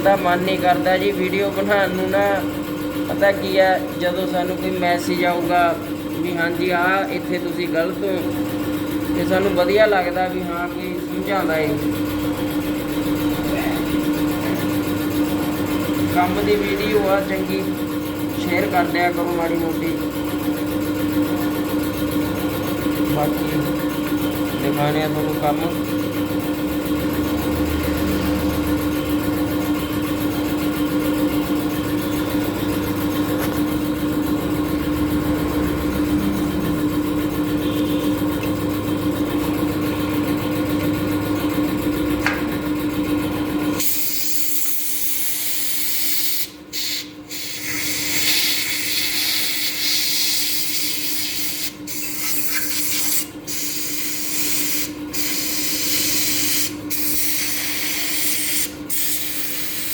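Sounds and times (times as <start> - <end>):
machine hum with held tone: 0.0 - 59.9.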